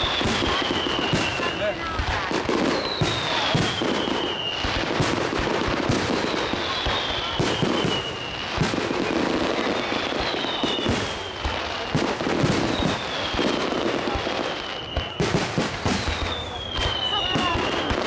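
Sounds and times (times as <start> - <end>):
falling firework whistle: 0.0 - 18.0
fireworks bangs and crackles: 0.0 - 18.0.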